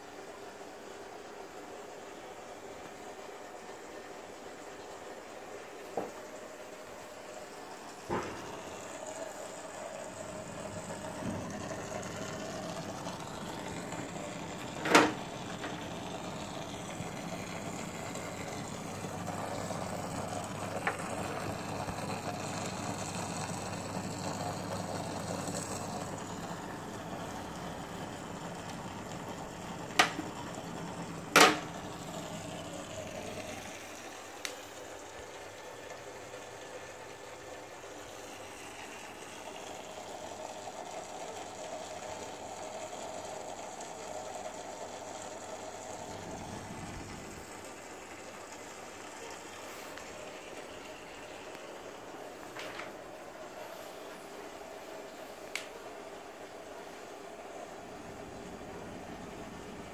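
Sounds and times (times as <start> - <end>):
aquarium filter pumps humming: 0.0 - 59.9
water moving through pumps: 0.0 - 59.9.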